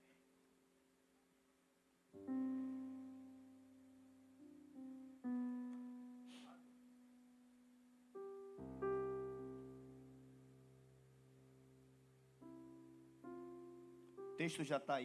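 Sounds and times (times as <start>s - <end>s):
soft keyboard chords: 2.1s - 15.0s.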